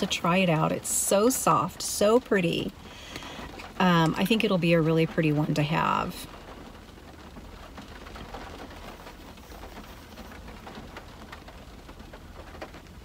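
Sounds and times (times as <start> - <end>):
rain on a car: 0.0 - 13.0
raindrops ticking: 0.0 - 13.0.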